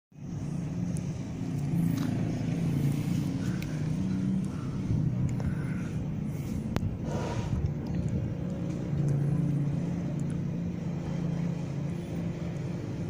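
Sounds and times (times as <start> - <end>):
low motor hum: 0.2 - 13.0.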